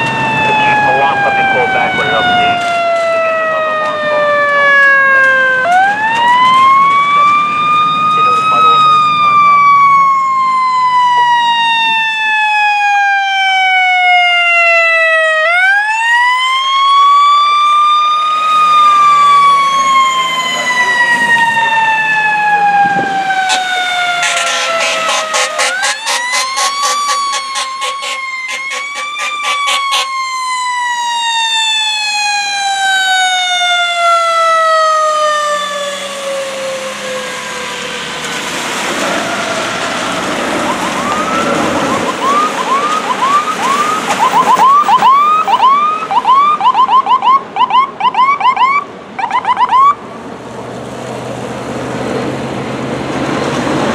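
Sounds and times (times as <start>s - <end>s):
electronic siren yelping: 0.0s - 38.1s, 39.2s - 50.1s
mechanical siren wailing: 0.0s - 38.4s, 39.0s - 50.1s.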